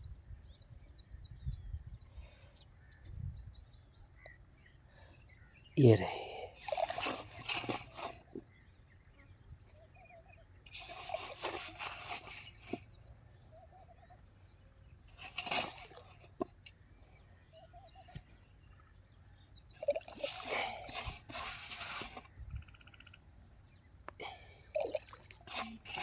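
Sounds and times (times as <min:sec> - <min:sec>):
faint bird calls: 0:00.0 - 0:26.0.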